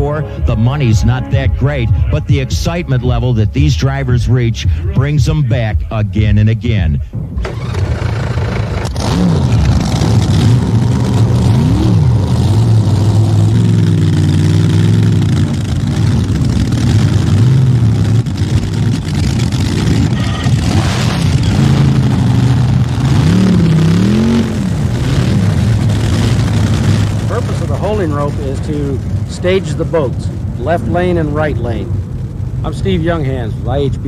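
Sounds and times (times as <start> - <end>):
boat engines idling: 0.0 - 6.0, 7.1 - 34.0
engine throttle blips: 0.0 - 34.0.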